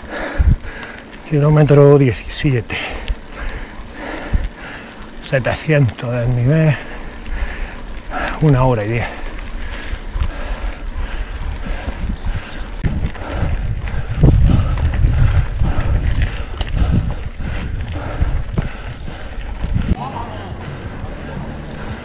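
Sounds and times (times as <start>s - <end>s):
bike tyres rumbling on gravel: 0.0s - 22.0s
wind buffeting microphone: 0.0s - 22.0s.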